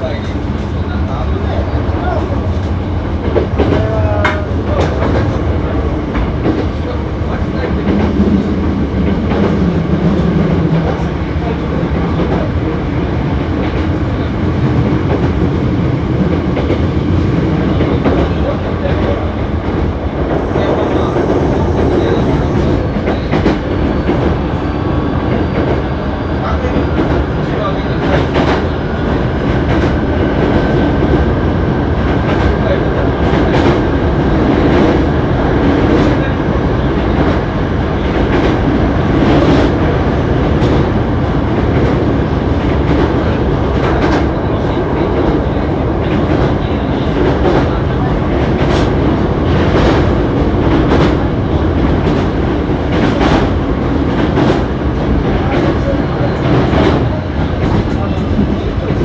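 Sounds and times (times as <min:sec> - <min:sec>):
train rumble and hum: 0:00.0 - 0:59.0.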